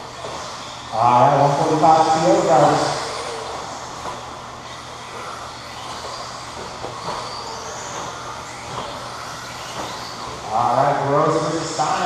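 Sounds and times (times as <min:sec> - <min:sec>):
rc truck motor whine: 0:00.0 - 0:12.0.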